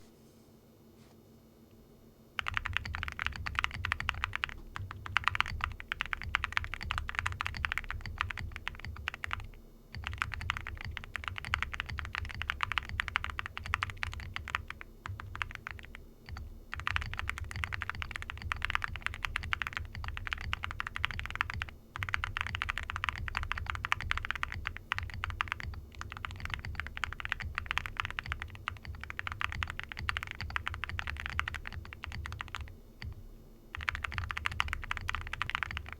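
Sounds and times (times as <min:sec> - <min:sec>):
fast mechanical keyboard typing: 0:02.4 - 0:35.9.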